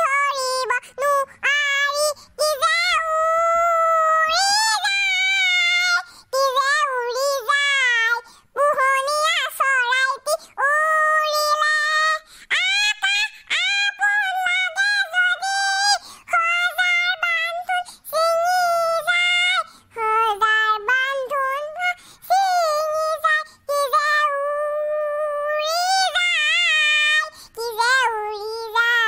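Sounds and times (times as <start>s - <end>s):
cartoon boy's voice singing: 0.0s - 29.0s.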